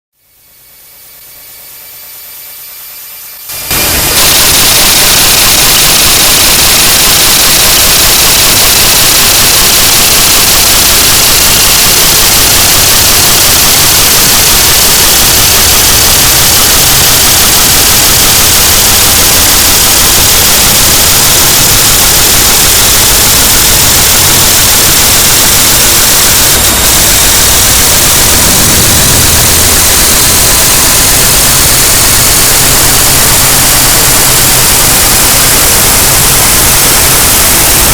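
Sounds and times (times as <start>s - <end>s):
harsh static noise: 0.2s - 37.9s.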